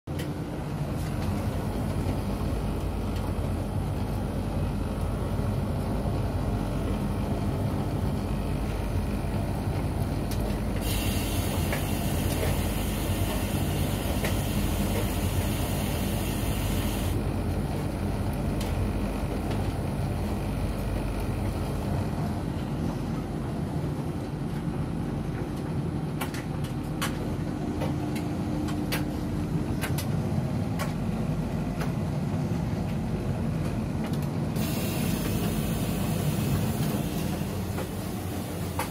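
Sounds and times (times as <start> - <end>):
washing machine humming: 0.1 - 38.9.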